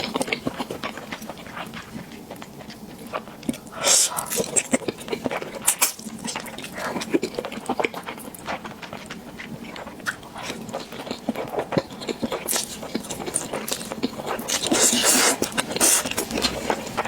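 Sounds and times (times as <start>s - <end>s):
person chewing and biting: 0.0s - 17.0s.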